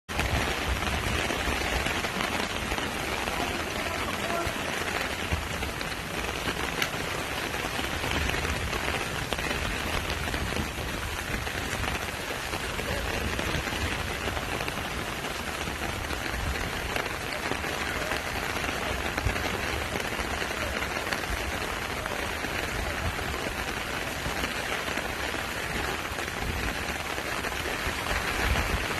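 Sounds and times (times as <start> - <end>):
heavy rain falling: 0.1 - 28.9.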